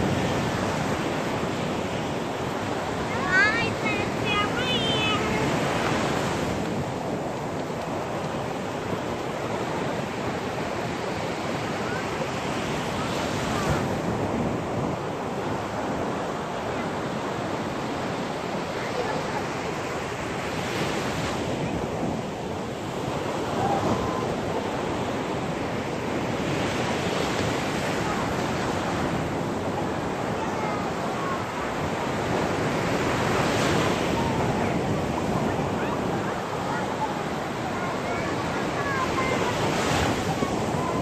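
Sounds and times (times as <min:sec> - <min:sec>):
sea waves breaking on shore: 0:00.0 - 0:41.0.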